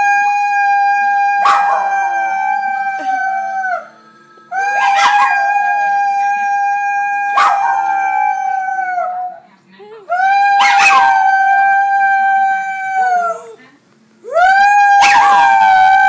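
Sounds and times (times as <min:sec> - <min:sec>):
man howling: 0:00.0 - 0:03.9, 0:04.5 - 0:09.3, 0:10.1 - 0:13.6, 0:14.2 - 0:16.0
dog howling: 0:00.0 - 0:09.4, 0:10.1 - 0:13.6, 0:14.2 - 0:16.0.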